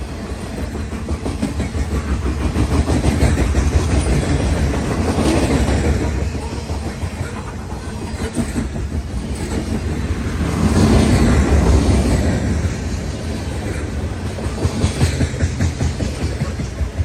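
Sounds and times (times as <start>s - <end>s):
freight train wheels rumbling on rails: 0.0s - 17.0s
train wheel clicks: 0.0s - 17.0s.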